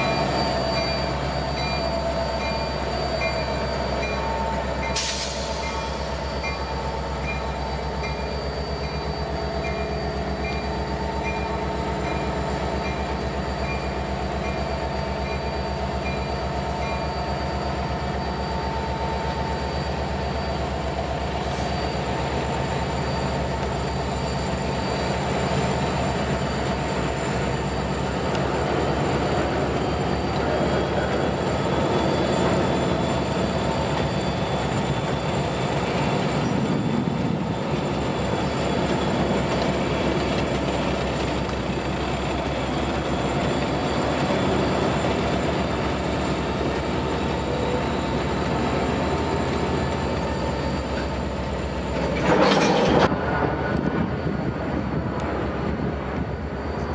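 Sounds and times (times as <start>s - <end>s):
diesel locomotive passing: 0.0s - 56.9s
high steady squeal: 0.0s - 56.9s
train wheels rolling on rails: 0.0s - 56.9s.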